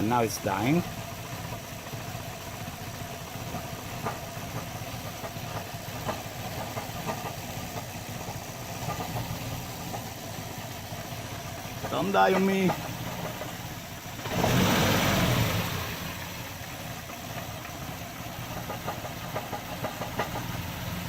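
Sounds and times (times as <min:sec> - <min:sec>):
car engine idling roughly: 0:00.0 - 0:21.0.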